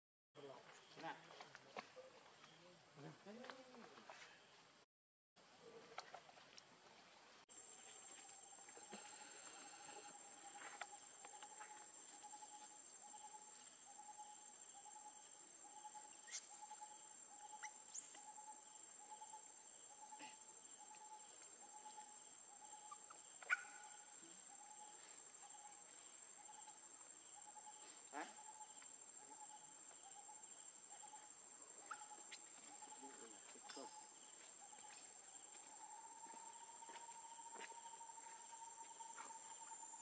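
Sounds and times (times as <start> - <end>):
faint insect-like chirping: 7.5 - 40.0.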